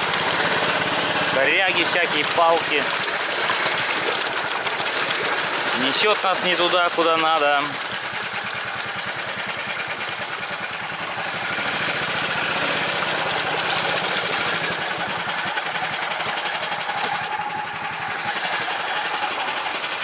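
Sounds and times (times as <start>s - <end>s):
vehicle engine running: 0.0s - 20.0s
vehicle wading through stream: 0.0s - 20.0s.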